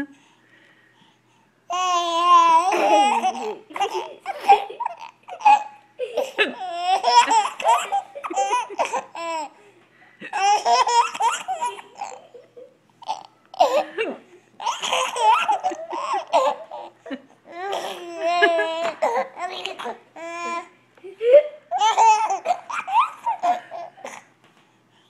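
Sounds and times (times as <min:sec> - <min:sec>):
baby laughing: 0:01.7 - 0:09.6, 0:10.3 - 0:14.0, 0:14.6 - 0:24.3.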